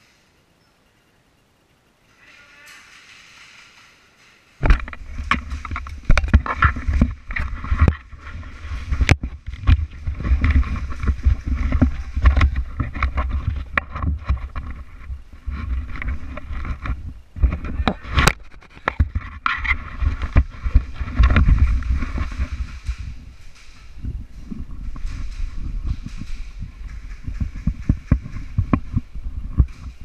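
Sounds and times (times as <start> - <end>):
gear rubbing and clattering: 2.1 - 30.0
low rumble: 4.6 - 30.0.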